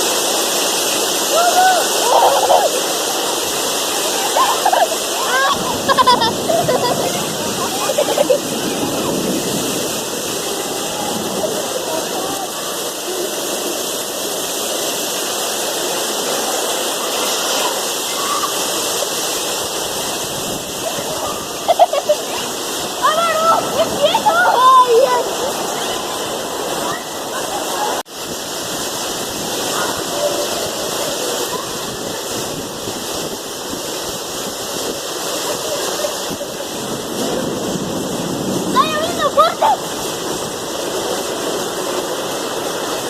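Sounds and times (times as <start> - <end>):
heavy rain and hail: 0.0 - 43.0.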